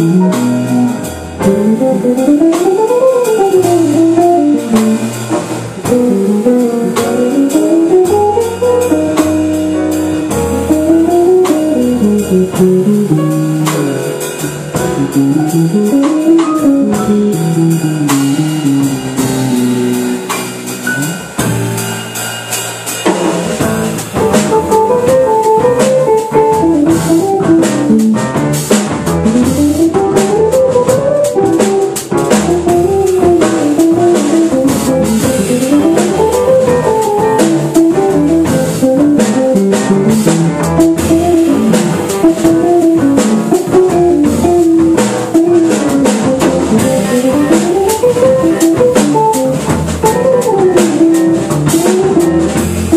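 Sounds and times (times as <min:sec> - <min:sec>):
jazz guitar: 0:00.0 - 0:52.9
small jazz band playing: 0:00.0 - 0:52.9.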